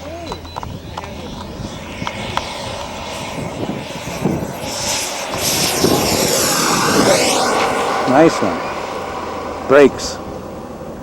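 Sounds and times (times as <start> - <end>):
model airplane engine passing: 0.0 - 11.0.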